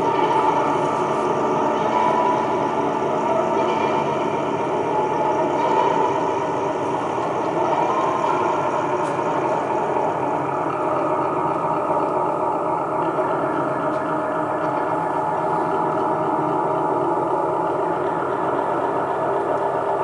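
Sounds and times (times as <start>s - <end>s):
dense drone: 0.0s - 20.0s.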